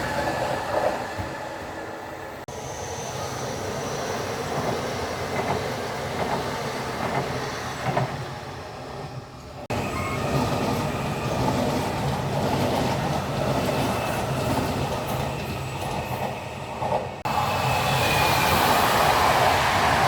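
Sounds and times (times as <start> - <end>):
train running on rails: 0.0 - 20.0.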